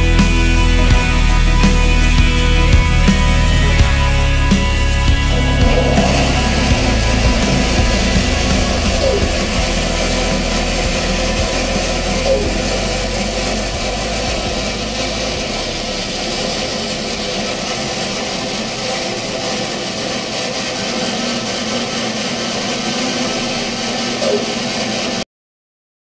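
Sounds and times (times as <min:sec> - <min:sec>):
band saw cutting wood: 0:01.1 - 0:25.2.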